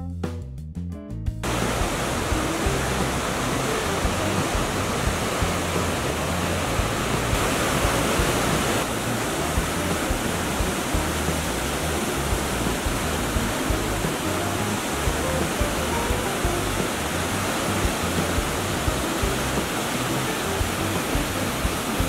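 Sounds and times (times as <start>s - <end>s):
waterfall rushing over rocks: 1.4s - 22.0s.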